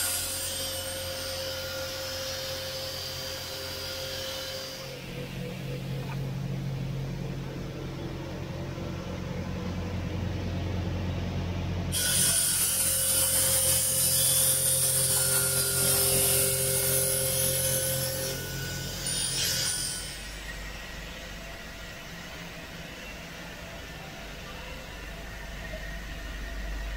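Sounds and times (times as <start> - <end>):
grinding machines humming: 0.0 - 26.9.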